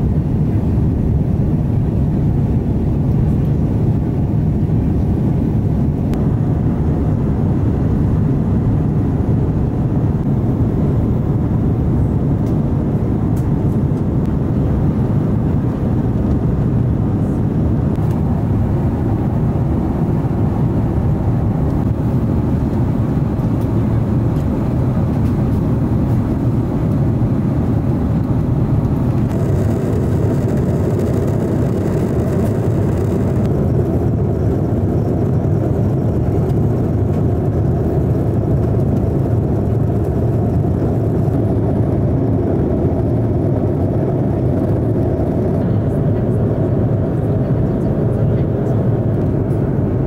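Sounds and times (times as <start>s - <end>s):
aircraft cabin engine rumble: 0.0s - 50.0s.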